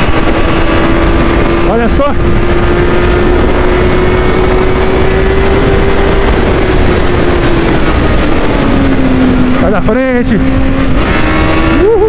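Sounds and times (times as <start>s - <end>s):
motorcycle engine at high revs: 0.0s - 12.0s
rushing wind noise: 0.0s - 12.0s.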